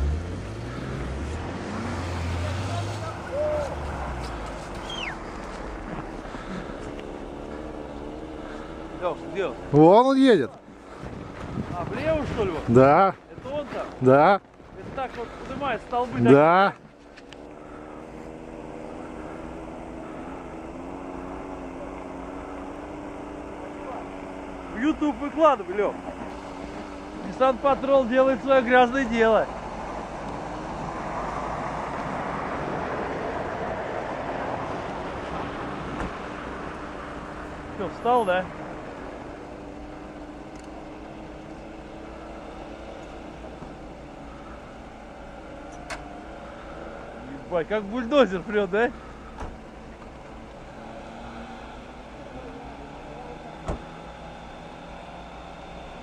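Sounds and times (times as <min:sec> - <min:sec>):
off-road vehicle engine droning: 0:00.0 - 0:56.0.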